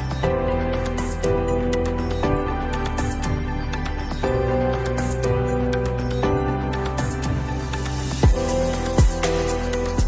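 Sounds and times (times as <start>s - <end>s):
soft new-age instrumental music: 0.0s - 10.0s.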